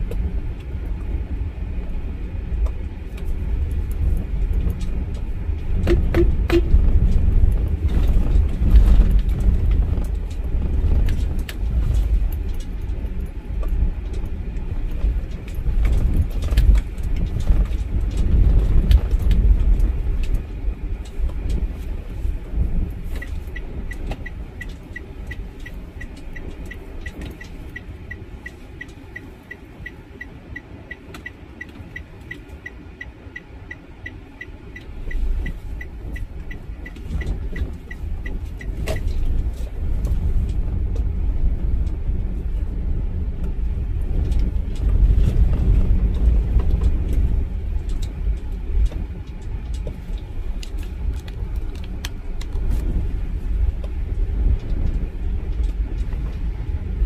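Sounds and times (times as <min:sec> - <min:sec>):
car engine and road rumble: 0:00.0 - 0:57.0
turn signal ticking: 0:00.0 - 0:57.0.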